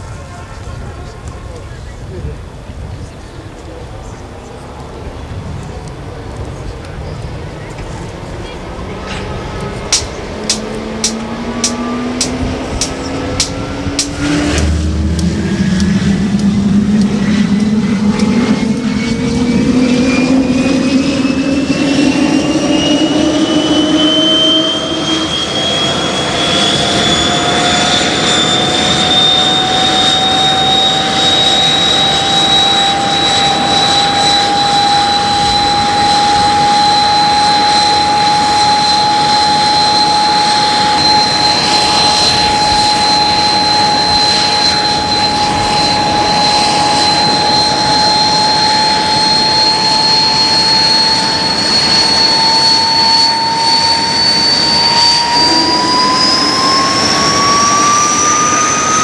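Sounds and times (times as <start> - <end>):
jet engine whine: 0.0 - 59.0
jet rush: 2.1 - 59.0.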